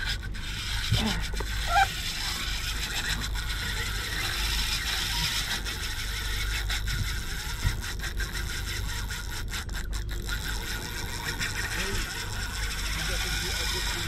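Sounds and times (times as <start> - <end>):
fishing reel gears whirring: 0.0 - 14.0
reel clicks: 0.0 - 14.0.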